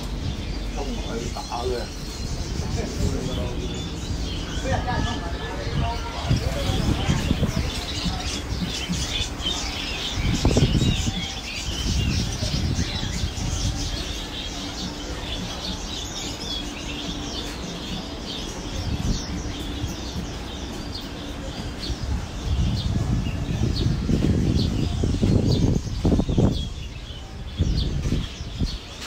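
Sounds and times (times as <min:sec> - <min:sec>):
caged songbirds chirping: 0:00.0 - 0:29.0.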